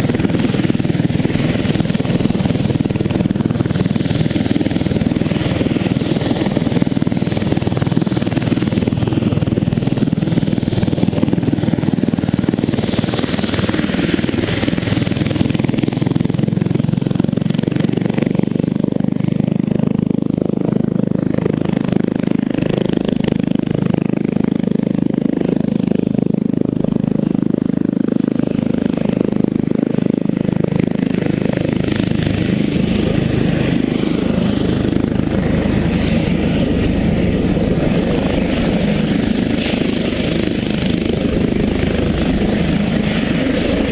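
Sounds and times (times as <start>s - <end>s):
helicopter turbines and rotor: 0.0s - 43.9s.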